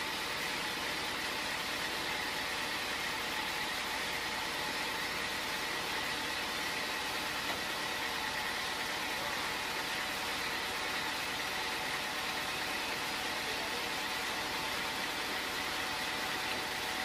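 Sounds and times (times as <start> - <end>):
band sawmill idling hiss: 0.0 - 17.0.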